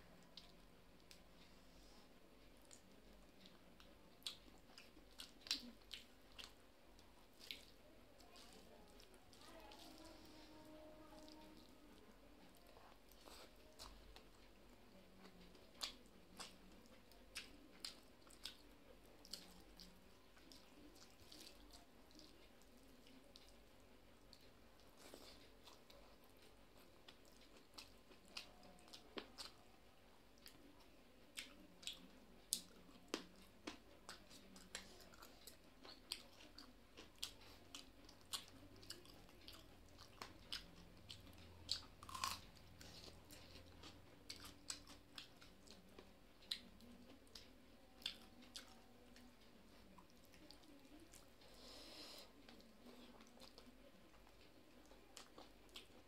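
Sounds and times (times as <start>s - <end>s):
chewing crunchy food: 0.1s - 56.0s.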